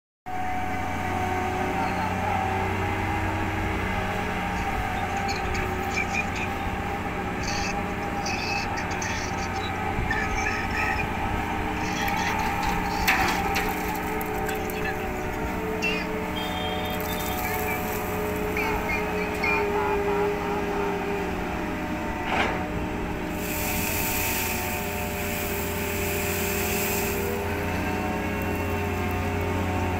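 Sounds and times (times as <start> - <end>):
crane machinery drone: 0.3 - 29.9.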